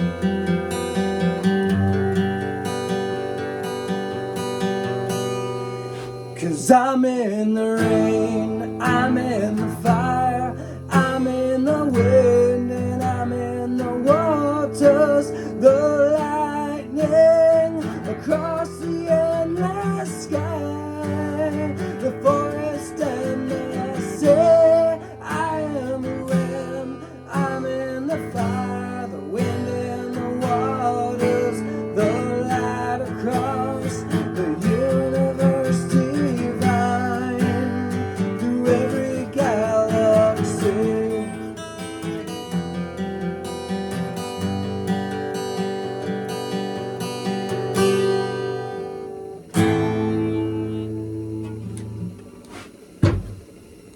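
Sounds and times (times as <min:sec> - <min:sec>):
acoustic guitar strumming: 0:00.0 - 0:53.9
sliding guitar melody: 0:00.0 - 0:53.9.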